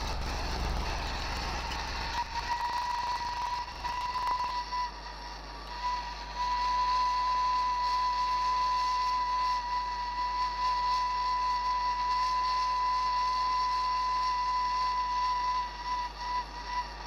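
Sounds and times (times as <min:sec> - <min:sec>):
brazing torch hissing and whistling: 0:00.0 - 0:17.0.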